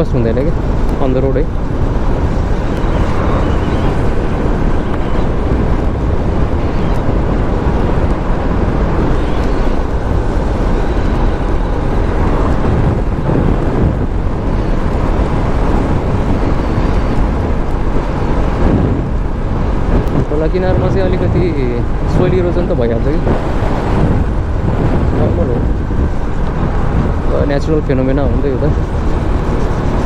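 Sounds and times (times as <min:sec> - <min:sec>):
motorcycle engine: 0:00.0 - 0:30.0
wind rush: 0:00.0 - 0:30.0.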